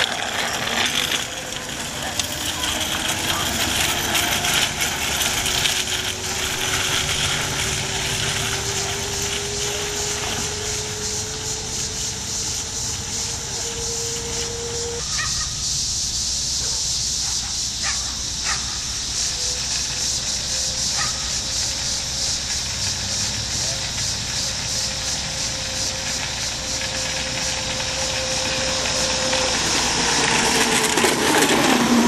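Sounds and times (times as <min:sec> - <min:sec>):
faint distant calls: 0:00.0 - 0:31.9
electric motor whine rising: 0:00.0 - 0:32.0
outdoor hiss: 0:00.0 - 0:32.0.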